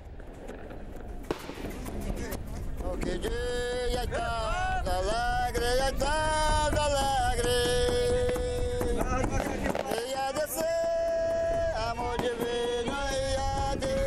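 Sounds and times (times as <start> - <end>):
man singing devotional song: 1.8 - 14.0.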